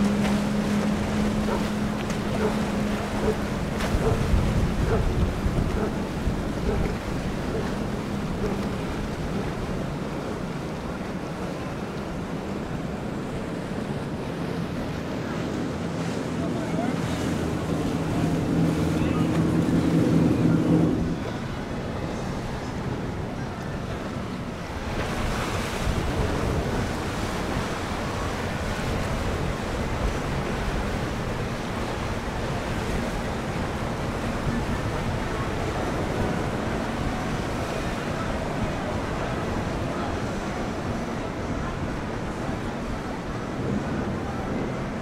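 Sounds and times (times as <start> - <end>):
outboard engines humming: 0.0 - 45.0
water wash: 0.0 - 45.0
wind buffeting microphone: 0.0 - 45.0.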